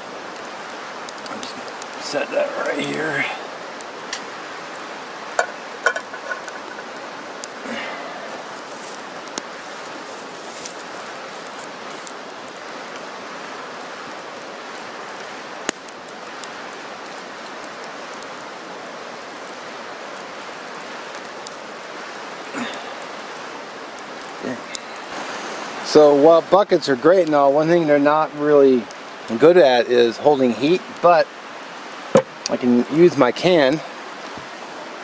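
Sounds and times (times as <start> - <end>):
campfire crackles and pops: 0.0 - 35.0
fire steady hiss: 0.0 - 35.0.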